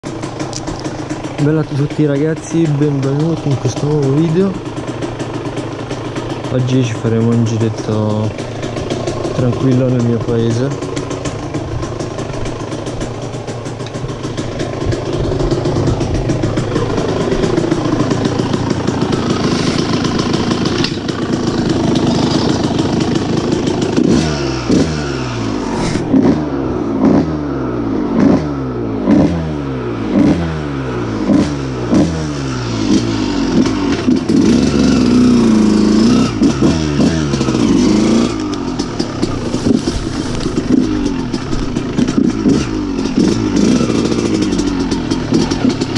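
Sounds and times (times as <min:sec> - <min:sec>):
two-stroke motocross engine revving: 0:00.0 - 0:45.9.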